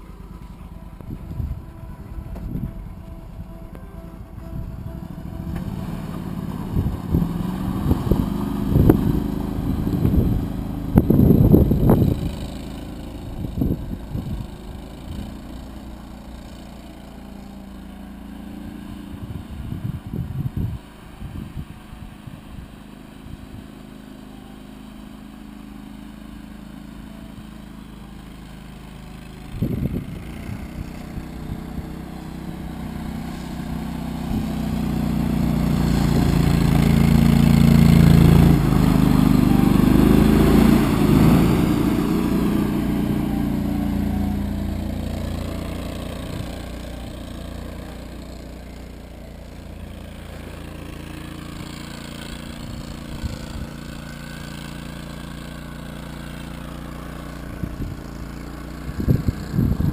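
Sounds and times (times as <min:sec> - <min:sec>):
atv engine driving through snow: 0:00.0 - 0:59.9.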